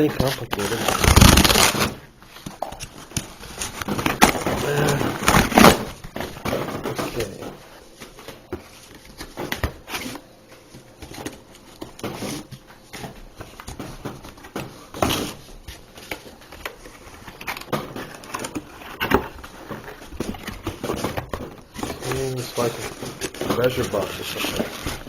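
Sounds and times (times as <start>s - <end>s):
packaging rustling and scraping: 0.0s - 25.0s.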